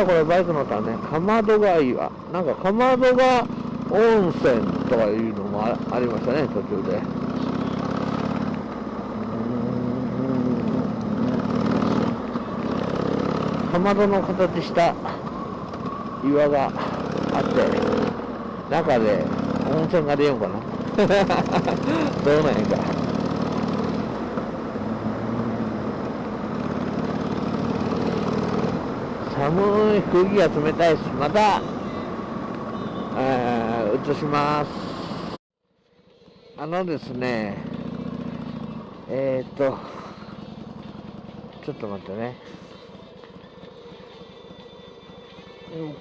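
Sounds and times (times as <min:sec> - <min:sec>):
motorcycle engine running: 0:00.0 - 0:34.6, 0:36.9 - 0:46.0.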